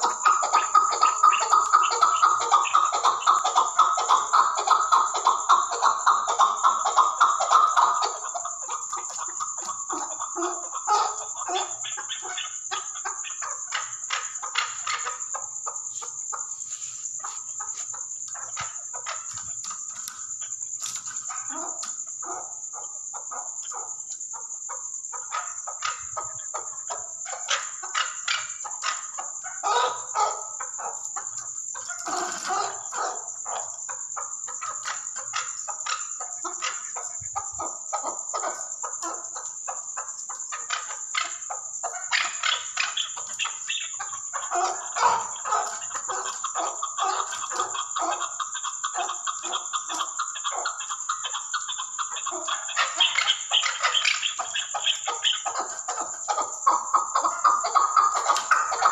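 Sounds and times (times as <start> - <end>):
partridge clucking calls: 0.0 - 58.9.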